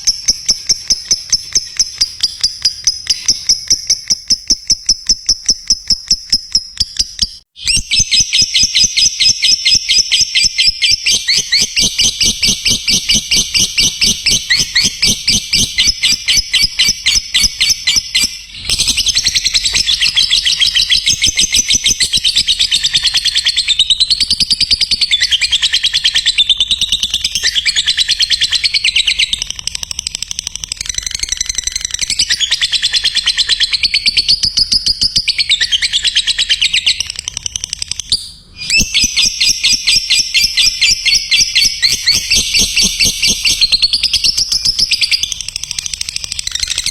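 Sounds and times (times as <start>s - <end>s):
lovebird chirping chatter: 0.0s - 46.9s.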